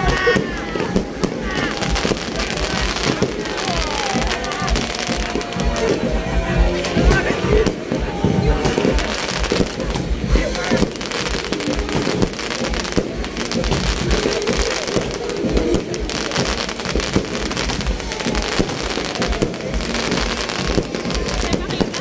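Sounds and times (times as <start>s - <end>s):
fireworks crackling and popping: 0.0s - 22.0s
low fireworks booms: 0.0s - 22.0s.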